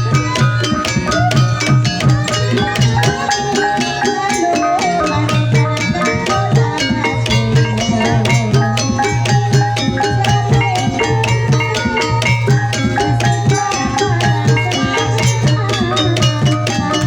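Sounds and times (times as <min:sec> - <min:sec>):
hand drum strokes: 0:00.0 - 0:17.0
ringing metallophone: 0:00.0 - 0:17.0.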